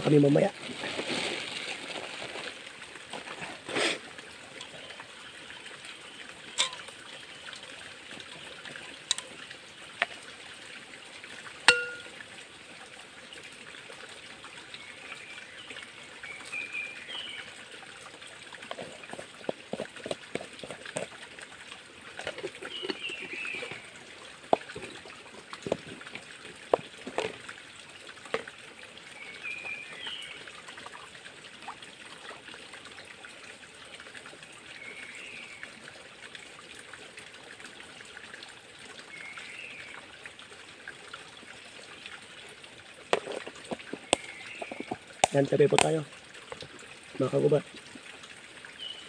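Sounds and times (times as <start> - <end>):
creek water trickling: 0.0 - 49.0.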